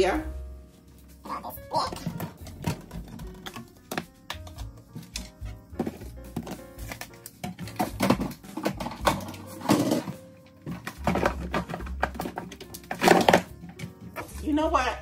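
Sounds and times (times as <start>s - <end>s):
kitchen utensils and dishes clattering: 1.8s - 14.5s.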